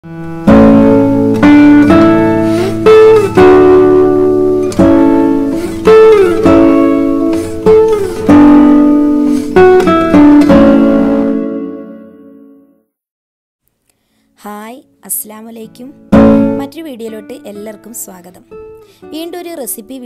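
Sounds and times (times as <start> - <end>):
plucked string music: 0.0 - 12.8, 15.0 - 20.0.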